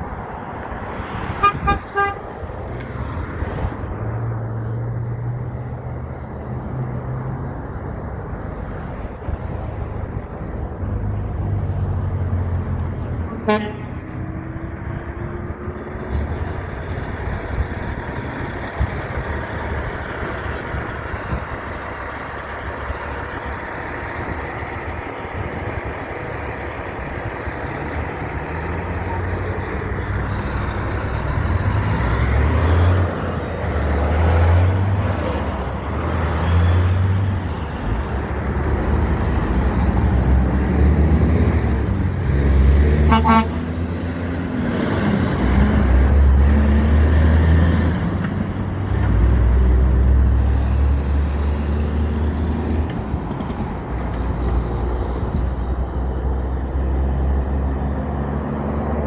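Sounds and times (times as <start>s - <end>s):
diesel engine rumble: 0.0s - 59.0s
heavy trucks passing: 0.0s - 59.0s.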